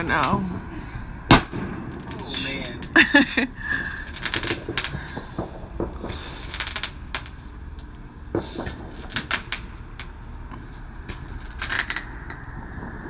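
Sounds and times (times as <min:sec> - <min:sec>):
distant fireworks popping: 0:00.0 - 0:13.0
low rumble: 0:00.0 - 0:13.0.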